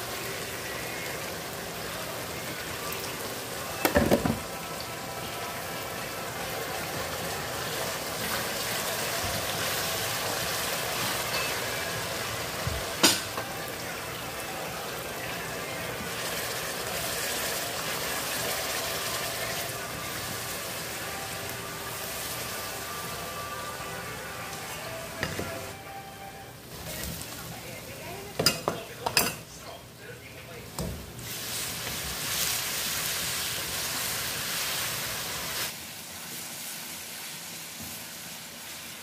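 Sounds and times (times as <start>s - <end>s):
sauce sizzling and bubbling: 0.0s - 25.8s, 31.0s - 39.0s.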